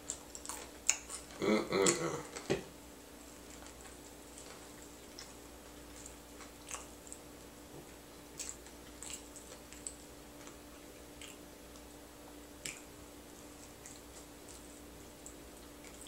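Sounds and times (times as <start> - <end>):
quiet chewing: 0.0 - 2.5, 3.2 - 16.0.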